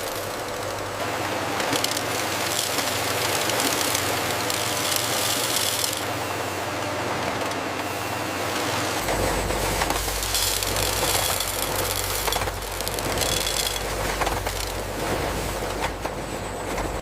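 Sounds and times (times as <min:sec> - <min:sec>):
industrial machinery running: 0:00.0 - 0:17.0.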